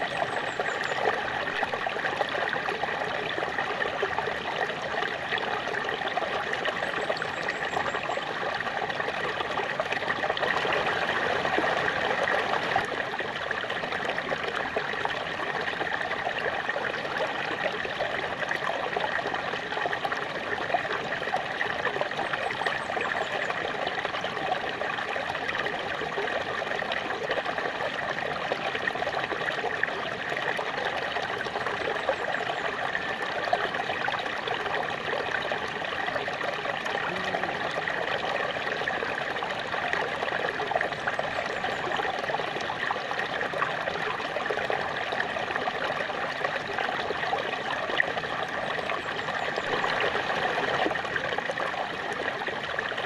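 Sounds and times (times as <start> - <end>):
small waterfall over rocks: 0.0 - 53.0.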